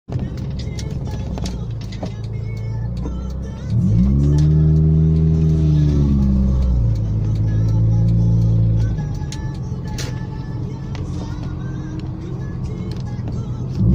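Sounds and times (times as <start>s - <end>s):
car engine idling and revving: 0.1s - 13.9s.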